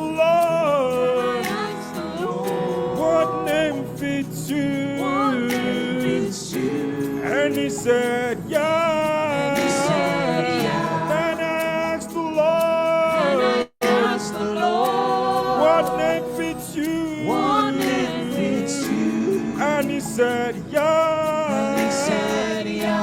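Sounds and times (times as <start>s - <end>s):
gospel singers holding notes: 0.0s - 23.0s.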